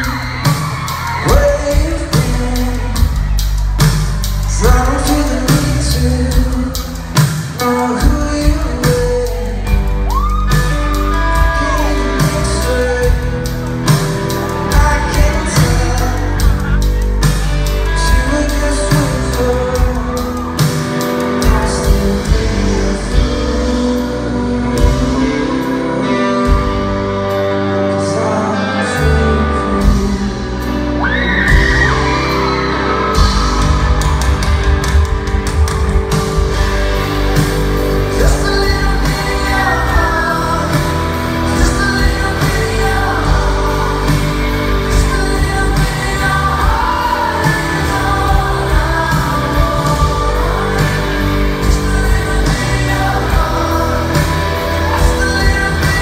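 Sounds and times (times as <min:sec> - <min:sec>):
man singing: 0:00.0 - 0:34.9, 0:36.1 - 0:56.0
live rock band playing: 0:00.0 - 0:56.0.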